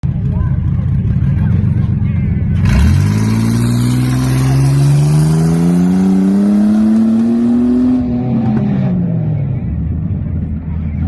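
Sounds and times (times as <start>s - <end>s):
truck engine accelerating hard: 0.0s - 10.6s.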